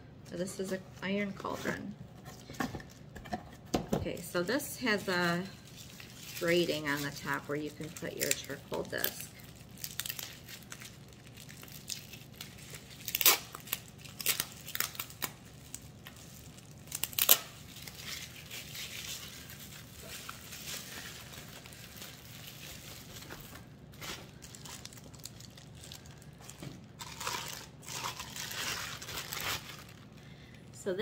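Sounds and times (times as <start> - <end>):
packing material crinkling and tearing: 4.1 - 30.3.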